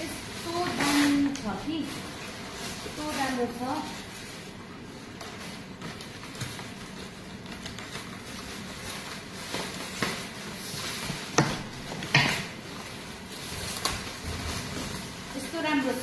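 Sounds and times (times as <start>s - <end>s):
plastic wrapping rustling and crackling: 0.0s - 16.0s.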